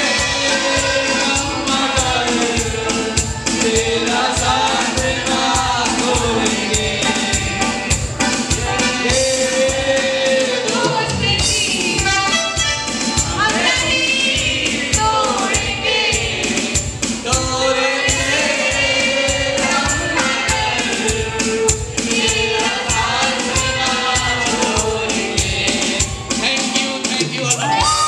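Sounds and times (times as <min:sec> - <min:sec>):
amplified backing music with drums: 0:00.0 - 0:28.0
group singing into microphones: 0:00.0 - 0:28.0.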